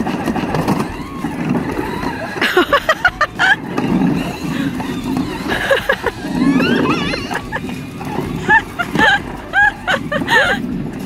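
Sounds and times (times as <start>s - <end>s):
toy vehicle motor and wheels rumbling: 0.0s - 11.0s.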